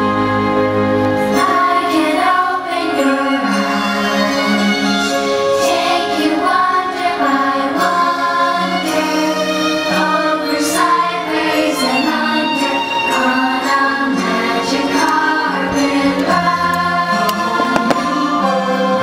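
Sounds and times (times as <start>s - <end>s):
music with singing voices: 0.0s - 19.0s.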